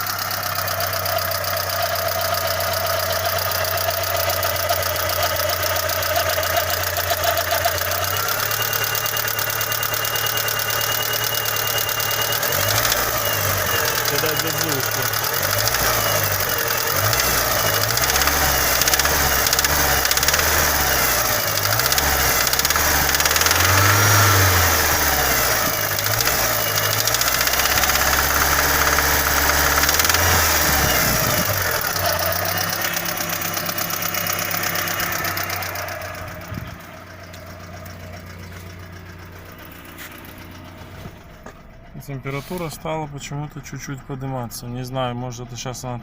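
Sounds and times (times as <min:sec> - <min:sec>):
car engine knocking: 0:00.0 - 0:46.0.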